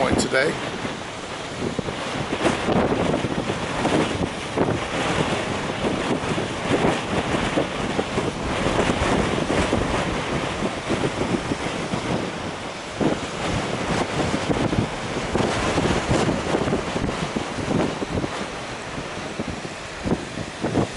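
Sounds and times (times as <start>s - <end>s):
waves breaking on shore: 0.0s - 20.9s
wind buffeting microphone: 0.0s - 20.9s.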